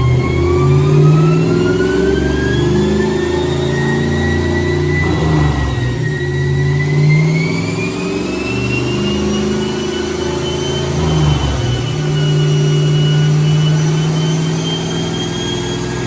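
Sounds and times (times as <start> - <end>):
engine running under load: 0.0 - 16.0
thin rising whine: 0.0 - 16.0.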